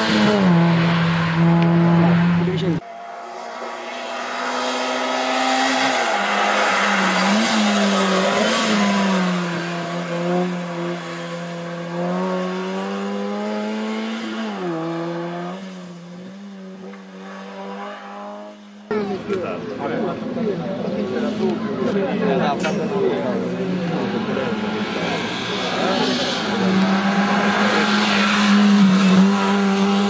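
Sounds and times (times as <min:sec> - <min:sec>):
race car engine revving: 0:00.0 - 0:19.5, 0:20.1 - 0:30.0.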